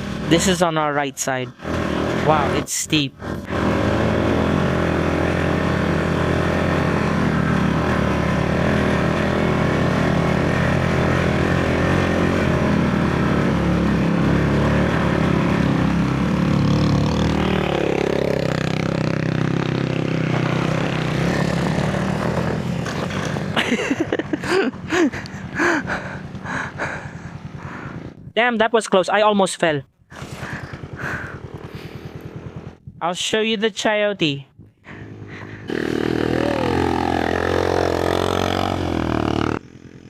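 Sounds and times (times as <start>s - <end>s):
motorcycle engine under load: 0.0s - 28.4s, 29.9s - 33.2s, 34.5s - 40.0s.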